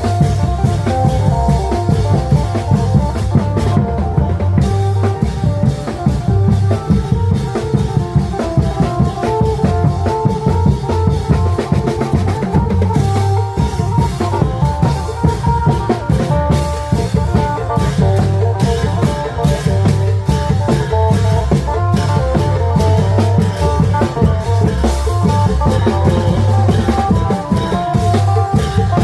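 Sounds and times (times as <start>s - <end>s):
long drums beating: 0.0s - 29.0s
lute melody: 0.0s - 29.0s.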